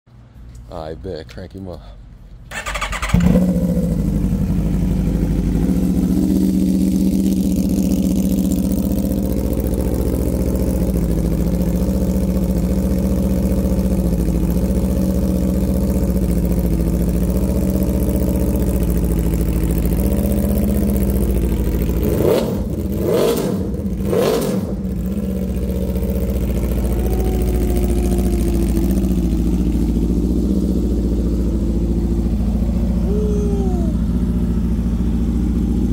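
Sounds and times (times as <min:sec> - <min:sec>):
motorcycle engine idling and revving: 0:02.1 - 0:35.9.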